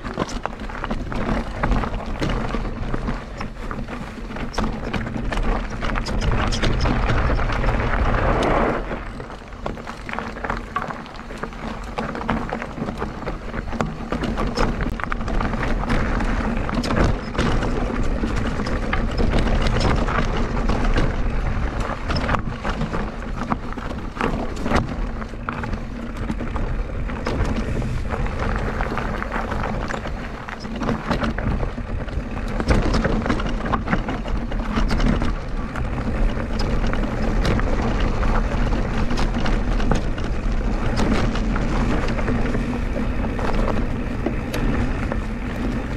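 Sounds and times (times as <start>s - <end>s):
bike rattling and clattering: 0.0s - 45.9s
tyres crunching over dirt and stones: 0.0s - 45.9s
wind buffeting microphone: 0.0s - 45.9s.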